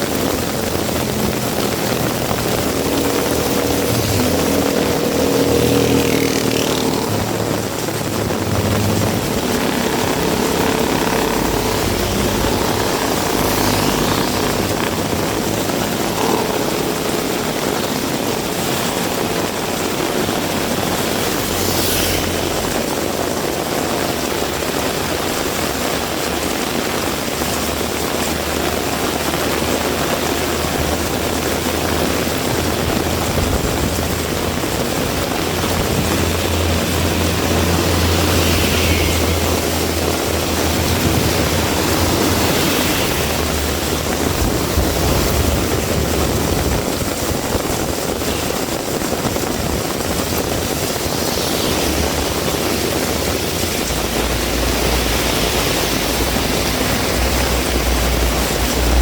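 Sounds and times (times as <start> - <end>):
faint engine hum: 0.0 - 59.0
heavy rain falling: 0.0 - 59.0.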